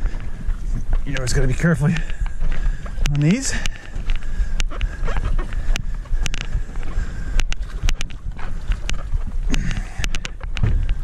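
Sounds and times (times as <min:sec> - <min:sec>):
footsteps on rock: 0:00.0 - 0:11.0
wind rumbling on microphone: 0:00.0 - 0:11.0.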